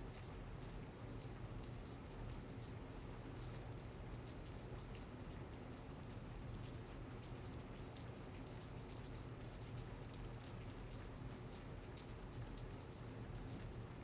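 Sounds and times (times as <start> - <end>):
raindrops ticking on a surface: 0.1 - 14.0.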